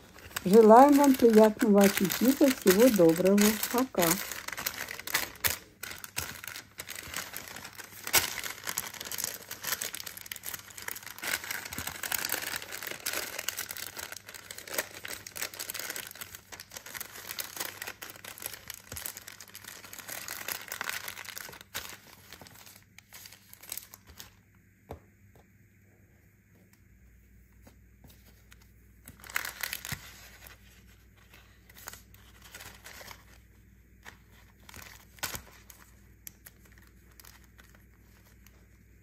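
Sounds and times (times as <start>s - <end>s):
parchment paper crinkling: 0.0s - 24.4s, 27.6s - 39.0s.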